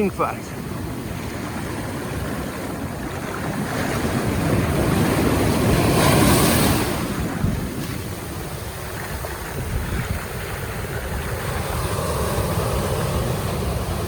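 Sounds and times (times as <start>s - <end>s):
surf breaking and washing: 0.0s - 14.0s
wind buffeting microphone: 0.0s - 14.0s.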